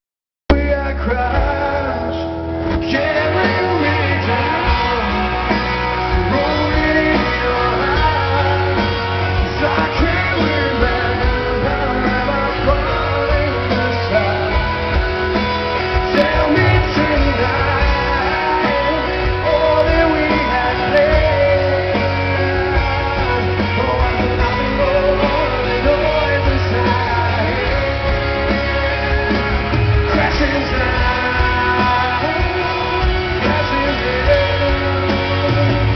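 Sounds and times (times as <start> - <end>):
electric guitar: 0.5 - 35.9
heavy bass line: 0.5 - 35.9
man singing lead vocal: 0.5 - 35.9.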